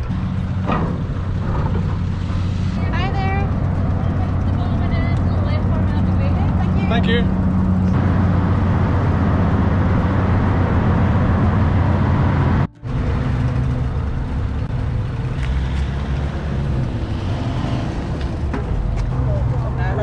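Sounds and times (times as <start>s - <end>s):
ferry diesel engine humming: 0.0s - 20.0s.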